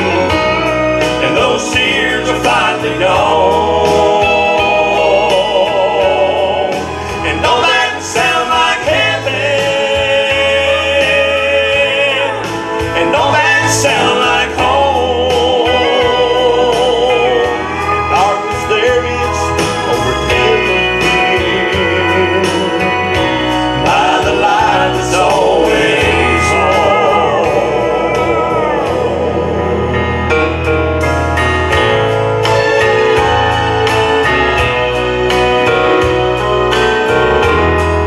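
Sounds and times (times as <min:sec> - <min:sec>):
male vocal trio singing in harmony: 0:00.0 - 0:30.6
instrumental accompaniment with bass: 0:00.0 - 0:38.0.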